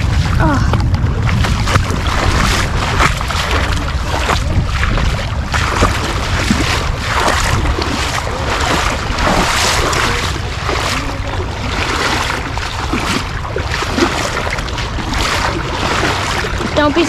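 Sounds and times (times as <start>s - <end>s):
rushing river current: 0.0s - 17.0s
wind buffeting microphone: 0.0s - 17.0s.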